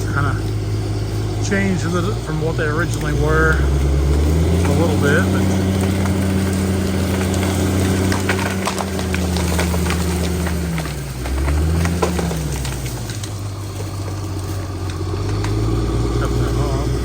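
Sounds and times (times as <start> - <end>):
heavy machine engine running: 0.0 - 17.0
wood cracking and snapping: 0.0 - 17.0.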